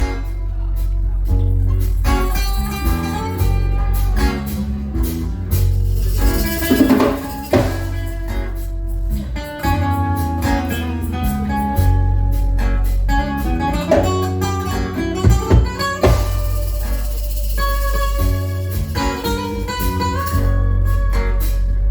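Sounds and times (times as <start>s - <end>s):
sharp percussive hits: 0.0s - 20.6s
guitar lines: 0.0s - 21.9s
steady bass: 0.0s - 21.9s.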